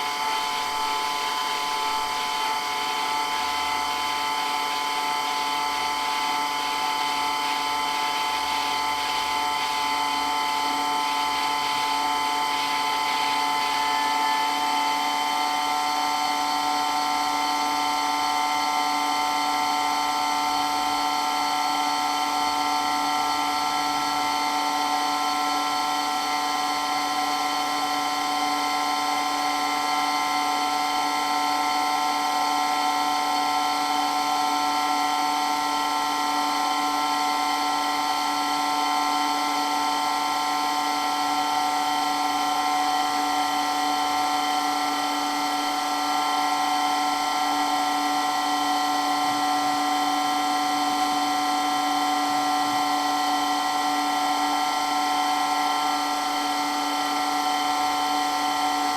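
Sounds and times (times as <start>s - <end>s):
electric water pump whining: 0.0s - 58.9s.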